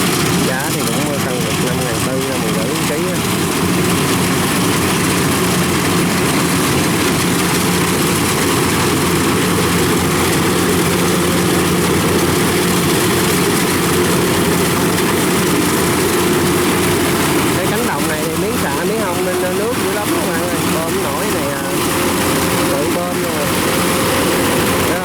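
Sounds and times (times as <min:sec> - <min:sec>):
combine harvester engine running: 0:00.0 - 0:25.0.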